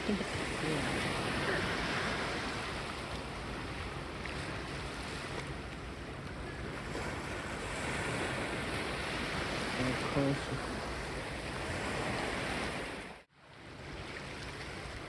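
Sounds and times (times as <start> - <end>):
sea waves on shore: 0.0 - 15.0.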